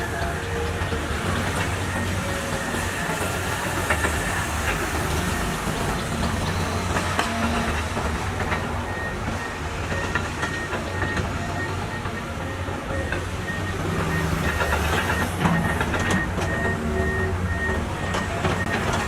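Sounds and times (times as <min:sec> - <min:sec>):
excavator diesel engine humming: 0:00.0 - 0:19.0.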